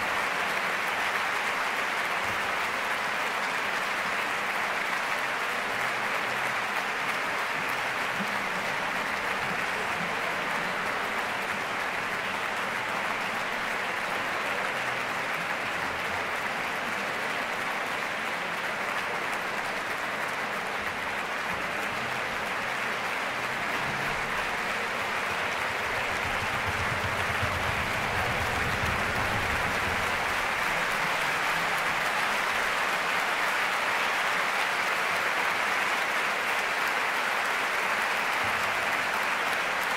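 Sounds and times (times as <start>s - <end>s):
audience applauding: 0.0s - 39.9s.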